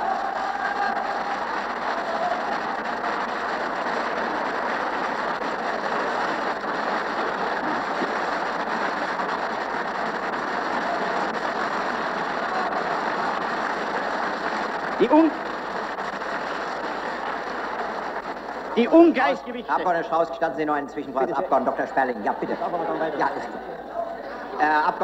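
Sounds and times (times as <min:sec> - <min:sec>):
applause from many hands: 0:00.0 - 0:25.0.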